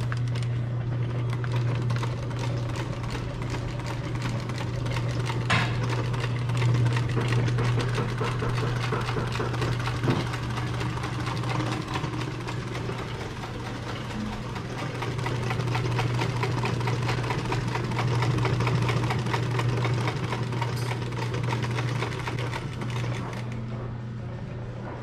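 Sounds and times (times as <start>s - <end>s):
sewing machine motor hum: 0.0s - 24.0s.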